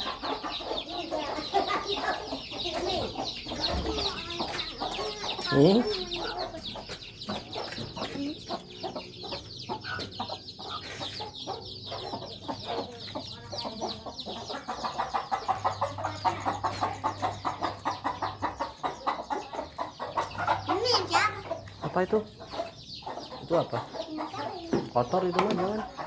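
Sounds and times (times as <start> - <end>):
chicks peeping: 0.0 - 26.0
rapid clucking: 0.0 - 26.0.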